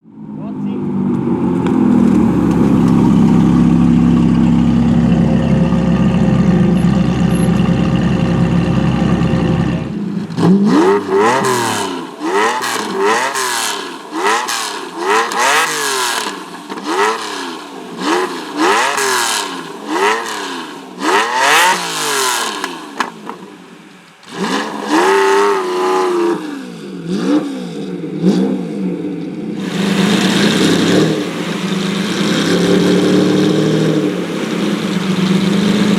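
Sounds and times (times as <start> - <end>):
car engine revving: 0.0 - 23.2, 24.2 - 35.9.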